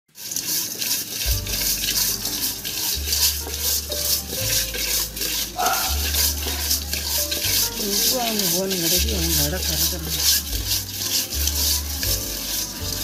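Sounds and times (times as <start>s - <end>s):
hands scrubbing fish wet swishing: 0.1s - 13.0s.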